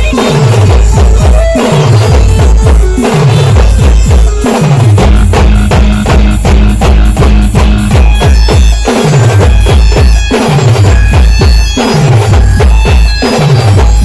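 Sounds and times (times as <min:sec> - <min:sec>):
heavy bass drum beat: 0:00.0 - 0:14.0
loud band music: 0:00.0 - 0:14.0.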